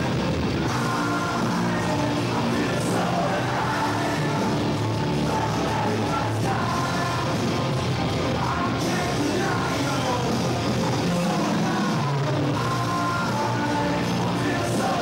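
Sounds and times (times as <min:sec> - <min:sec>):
loud rock music with singing: 0:00.0 - 0:15.0.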